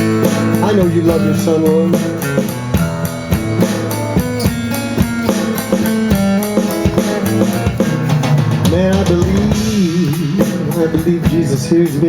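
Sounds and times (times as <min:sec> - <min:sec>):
bass guitar: 0:00.0 - 0:12.0
drum kit beat: 0:00.0 - 0:12.0
electric guitar: 0:00.0 - 0:12.0.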